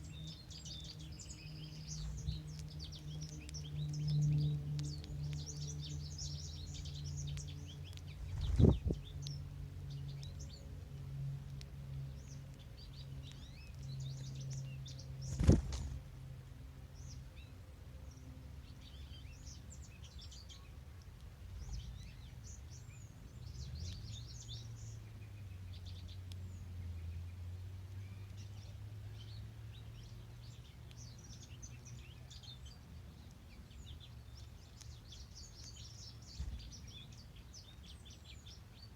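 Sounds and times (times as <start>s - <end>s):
low background hum: 0.0s - 38.9s
songbirds chirping: 0.0s - 38.9s.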